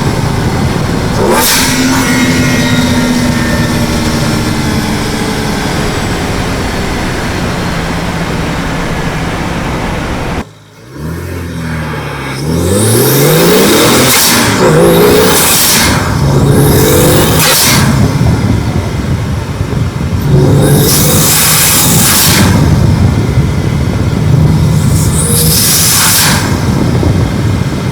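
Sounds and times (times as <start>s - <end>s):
car engine accelerating hard: 0.0s - 27.9s.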